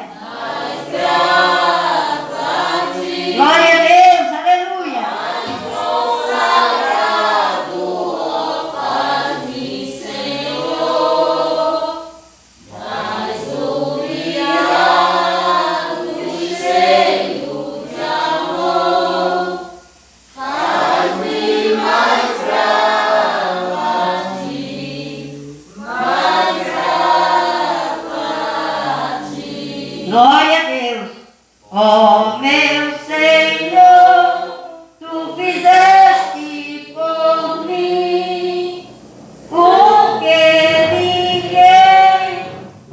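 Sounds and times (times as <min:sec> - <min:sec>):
voices singing a hymn: 0:00.0 - 0:42.9.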